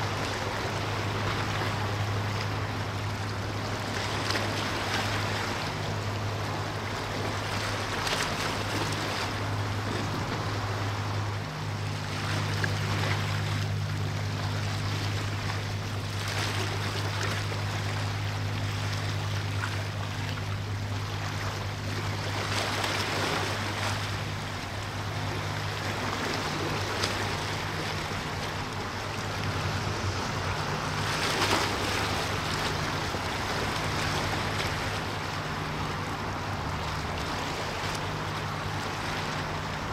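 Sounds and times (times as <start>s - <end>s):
ship engines humming: 0.0s - 39.9s
waves washing: 0.0s - 39.9s
wind: 0.0s - 39.9s.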